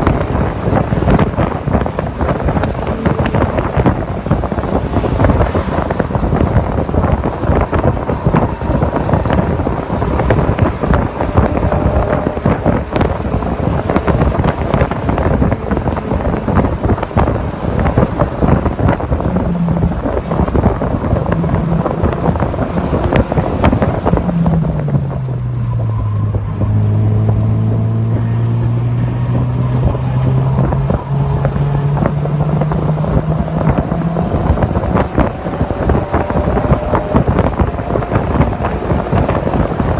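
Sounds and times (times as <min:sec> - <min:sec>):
car engine note: 0:00.0 - 0:39.9
wind buffeting microphone: 0:00.0 - 0:39.9.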